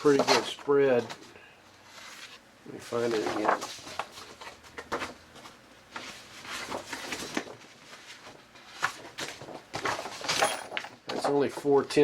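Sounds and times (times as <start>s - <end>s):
paper rustling: 0.1s - 10.9s.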